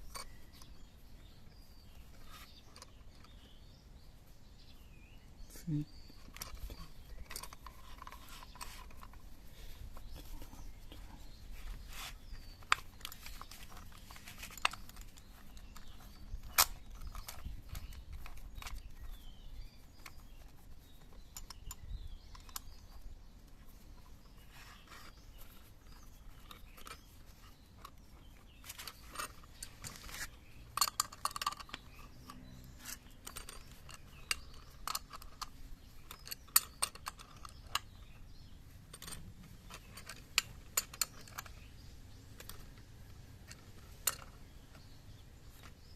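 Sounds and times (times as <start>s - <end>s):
tools and metal parts clicking: 0.0s - 3.6s, 6.0s - 45.9s.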